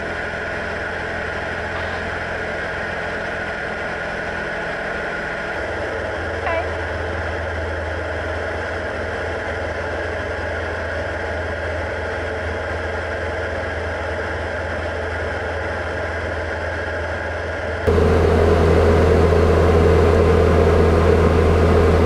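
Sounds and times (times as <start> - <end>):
airplane engine and propeller drone: 0.0 - 22.0.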